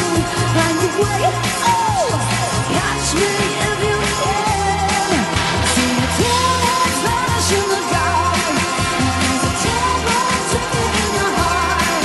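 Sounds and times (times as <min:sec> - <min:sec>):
pop dance music by live band: 0:00.0 - 0:12.0.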